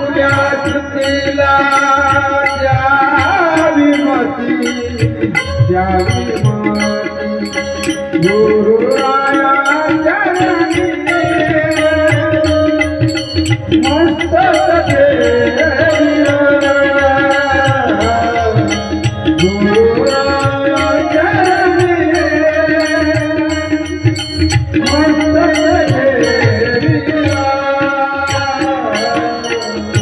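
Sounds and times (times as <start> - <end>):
drum and percussion beat: 0.0 - 30.0
person singing devotional song: 0.0 - 30.0.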